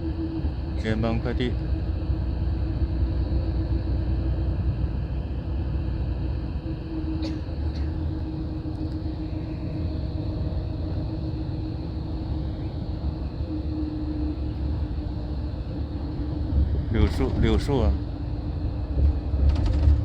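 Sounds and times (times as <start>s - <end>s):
bus engine and tyres rumbling: 0.0s - 20.0s
steady hum: 0.0s - 20.0s.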